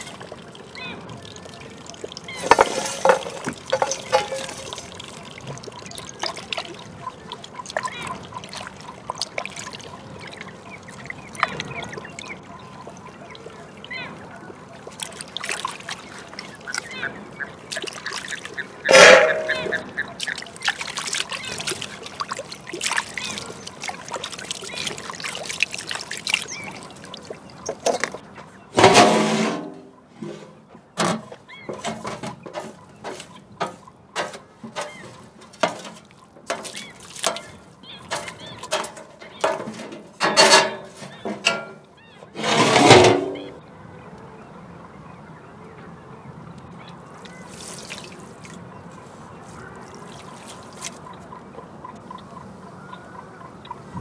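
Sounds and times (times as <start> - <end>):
water pouring and trickling: 0.0 - 43.6, 46.6 - 52.7.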